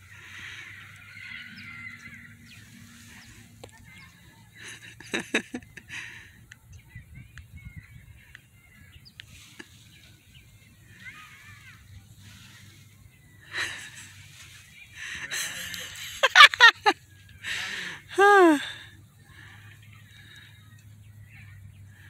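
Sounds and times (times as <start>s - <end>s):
birds chirping and calling: 0.0s - 22.0s.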